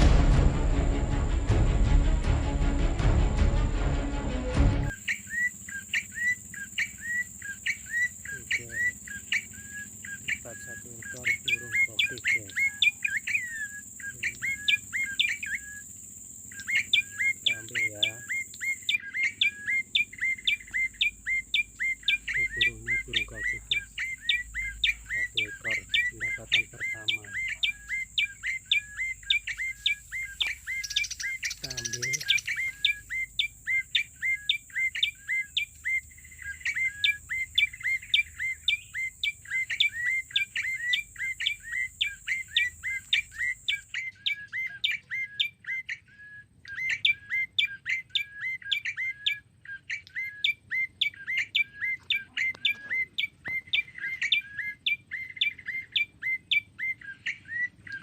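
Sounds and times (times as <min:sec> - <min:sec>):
small bird chirping: 0:04.9 - 0:58.0.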